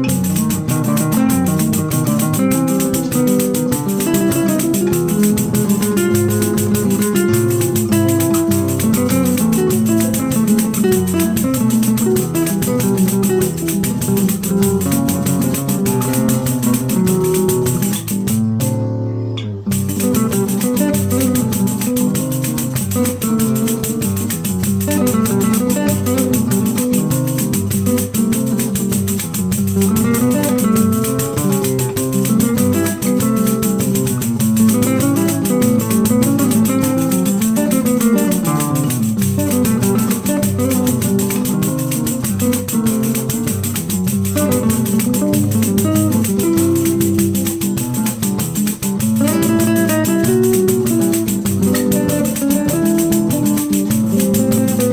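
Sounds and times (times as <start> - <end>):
classical guitar melody: 0.0 - 54.9.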